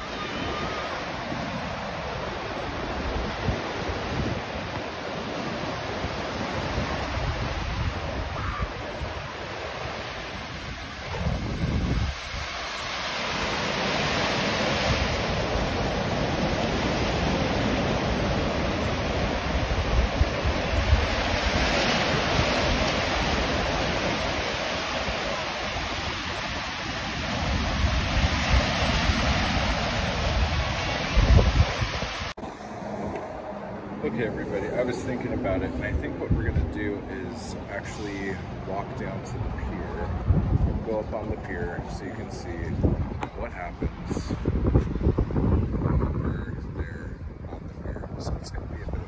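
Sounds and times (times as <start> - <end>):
wind buffeting microphone: 0.0 - 37.7, 38.5 - 49.0
ocean surf washing up beach: 0.0 - 41.6.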